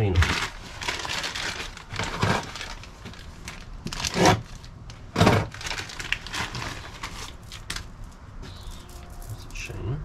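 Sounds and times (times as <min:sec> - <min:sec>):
loud plastic rips: 0:00.0 - 0:09.6
plastic packaging crinkling: 0:00.0 - 0:09.6.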